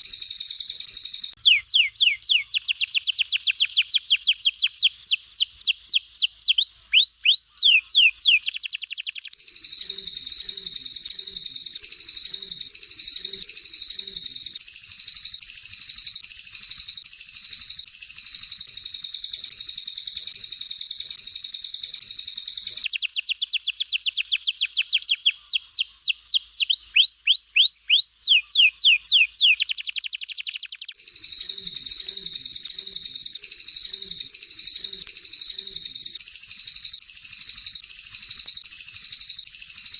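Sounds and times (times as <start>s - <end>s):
high rolling bird warble: 0.0s - 39.9s.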